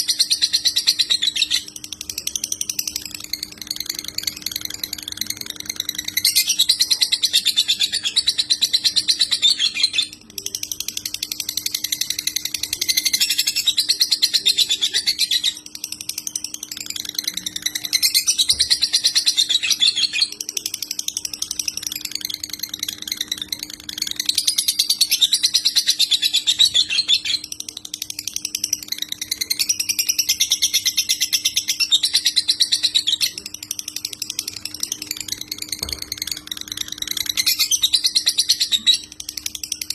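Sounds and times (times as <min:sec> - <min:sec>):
bird singing fast chattering trills: 0:00.0 - 0:39.9.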